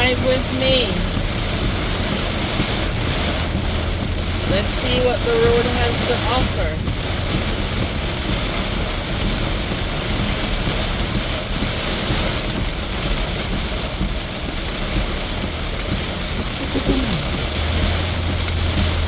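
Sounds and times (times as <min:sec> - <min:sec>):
heavy rain drumming on car roof: 0:00.0 - 0:19.0
tyre and engine noise: 0:00.0 - 0:19.0.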